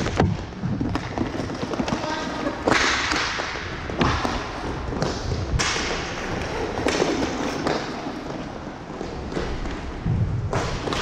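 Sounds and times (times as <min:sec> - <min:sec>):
hockey sticks and puck knocking: 0:00.0 - 0:11.0
skate wheels rumbling on floor: 0:00.0 - 0:11.0.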